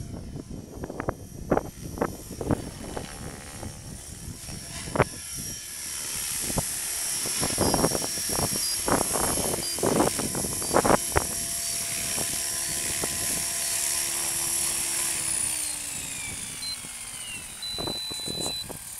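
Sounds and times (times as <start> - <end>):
electric motor whine: 0.0 - 18.9
helicopter rotor noise: 0.0 - 18.9.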